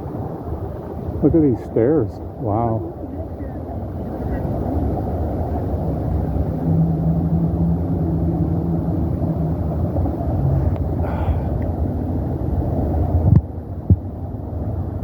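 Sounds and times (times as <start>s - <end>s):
steady hum: 0.0s - 15.0s
wind on microphone: 0.0s - 15.0s.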